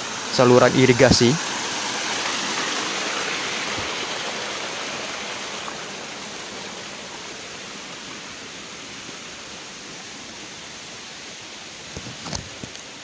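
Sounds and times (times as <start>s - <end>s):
water rushing along channel: 0.0s - 13.0s.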